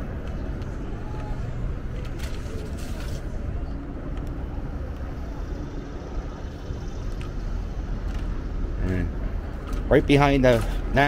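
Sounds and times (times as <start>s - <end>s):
faint steady hum: 0.0s - 11.0s
low outdoor rumble: 0.0s - 11.0s.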